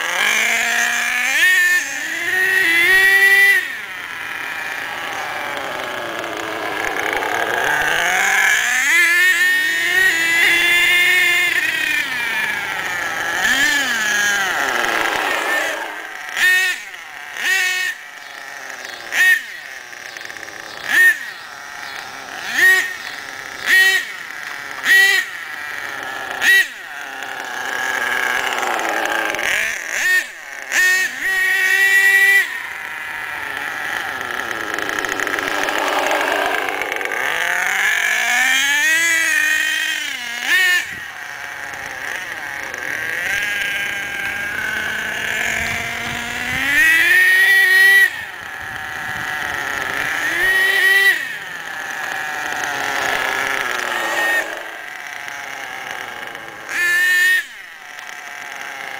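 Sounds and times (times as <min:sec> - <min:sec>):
nitro engine revving: 0:00.0 - 0:58.9.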